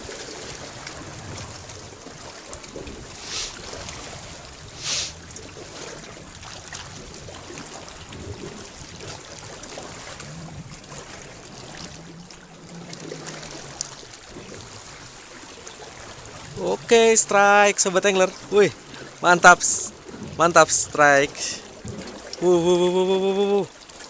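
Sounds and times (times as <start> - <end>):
seawater lapping against rocks: 0.0 - 24.0
water splash: 0.0 - 24.0.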